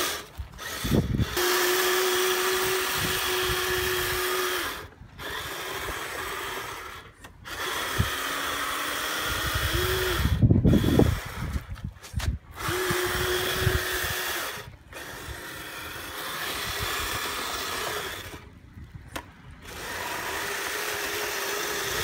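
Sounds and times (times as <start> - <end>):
electric motors whirring: 0.0 - 22.0.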